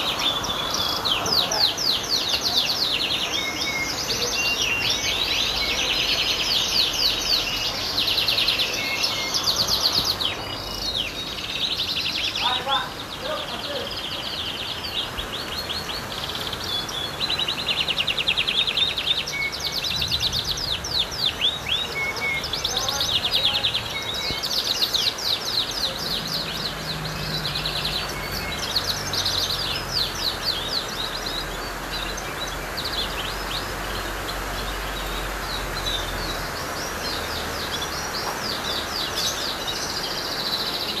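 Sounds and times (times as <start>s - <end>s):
background hiss: 0.0s - 41.0s
songbird trilling and chirping: 0.0s - 41.0s.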